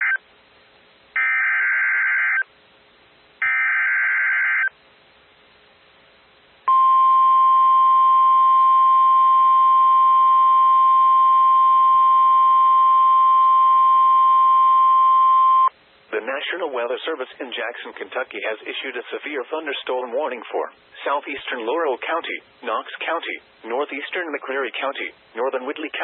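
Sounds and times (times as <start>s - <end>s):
faint radio hiss: 0.0s - 10.8s, 15.4s - 26.0s.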